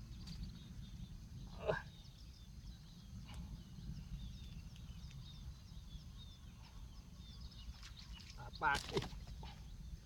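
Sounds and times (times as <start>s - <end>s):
steady low rumble: 0.0s - 8.2s
small birds chirping: 0.0s - 10.0s.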